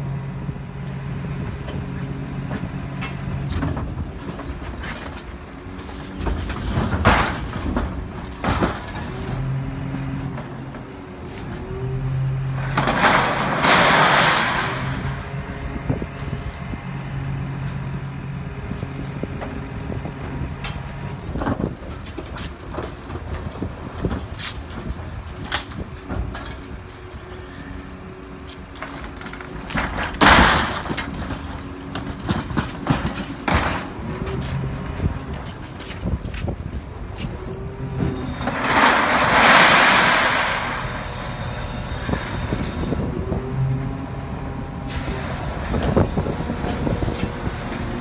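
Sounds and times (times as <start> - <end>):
garbage truck engine drone: 0.0 - 48.0
clanks and knocks of bins: 1.6 - 16.0, 19.2 - 26.8, 28.7 - 43.8, 44.9 - 48.0.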